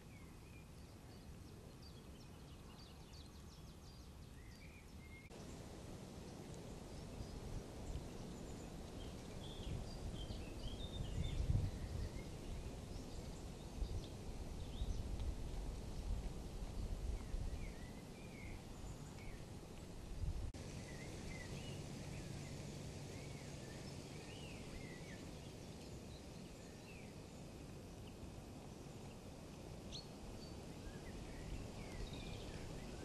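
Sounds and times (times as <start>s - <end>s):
low rumble of outdoor noise: 0.0s - 33.0s.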